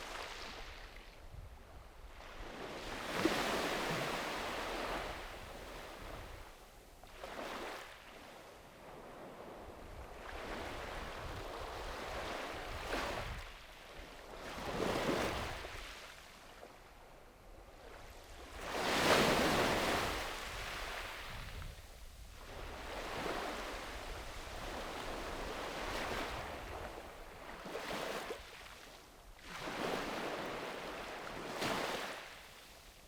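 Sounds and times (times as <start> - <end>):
small waves breaking on beach: 0.0 - 33.0.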